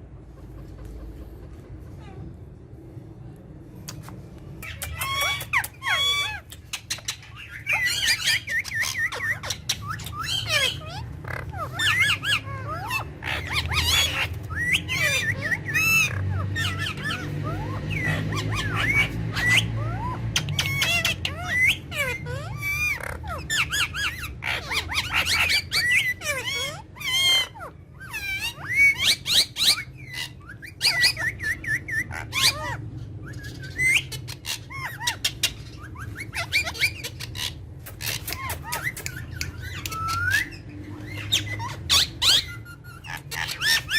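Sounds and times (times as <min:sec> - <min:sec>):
parrots squawking and chattering: 0:00.0 - 0:03.0, 0:03.7 - 0:43.9.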